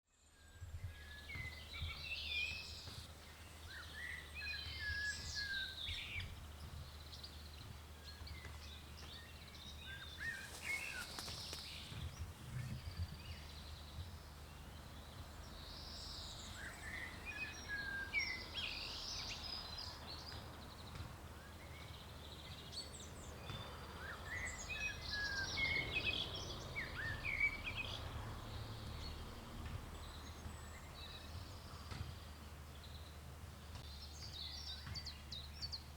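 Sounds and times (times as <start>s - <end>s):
songbirds warbling: 1.0s - 35.9s.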